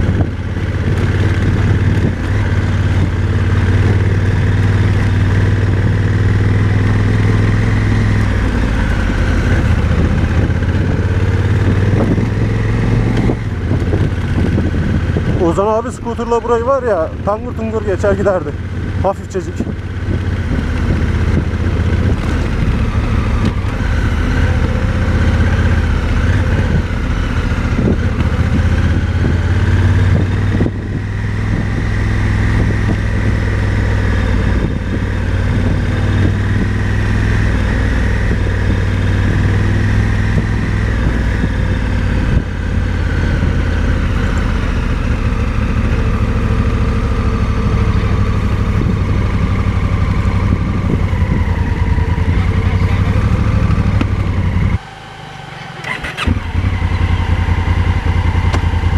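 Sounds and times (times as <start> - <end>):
motorcycle engine at low revs: 0.0 - 58.9.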